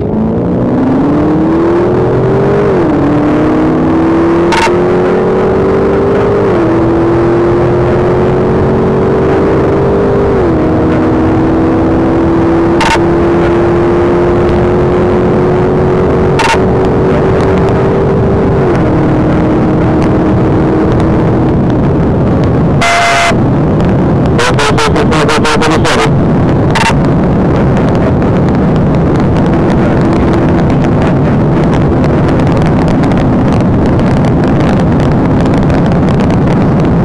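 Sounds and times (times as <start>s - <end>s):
car engine accelerating: 0.0s - 37.0s
road and wind noise: 0.0s - 37.0s.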